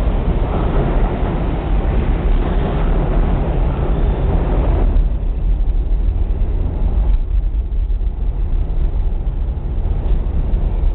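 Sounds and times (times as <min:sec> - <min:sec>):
subway train rumbling: 0:00.0 - 0:10.9.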